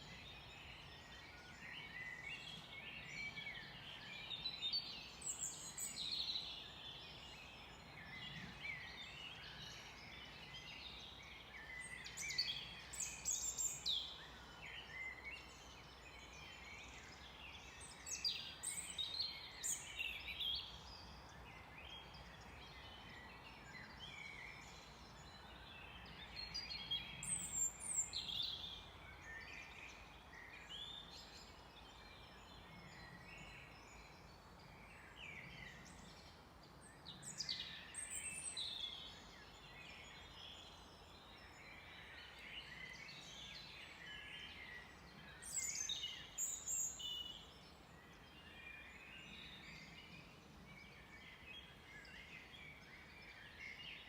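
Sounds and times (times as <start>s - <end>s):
low background hiss: 0.0s - 54.0s
songbirds chirping and whistling: 0.0s - 54.0s.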